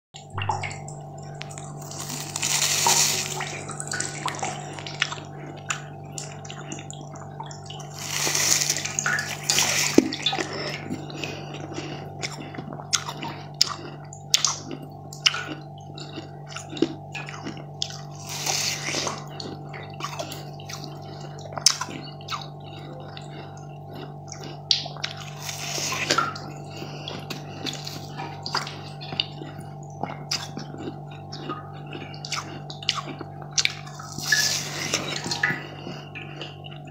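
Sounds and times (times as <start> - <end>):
chewing crunchy sweet: 0.2 - 36.9
steady low hum: 0.2 - 36.9.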